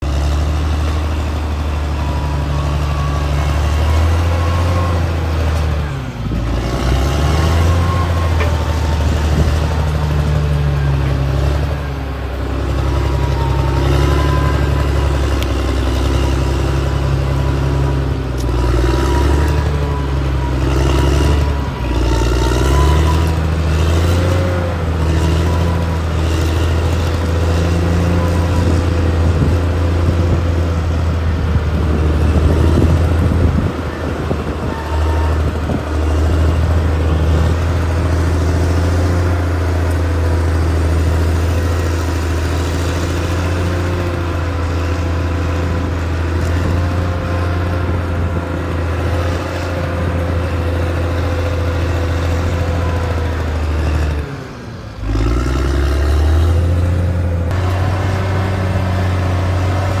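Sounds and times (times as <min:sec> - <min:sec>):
bulldozer diesel engine running: 0:00.0 - 1:00.0.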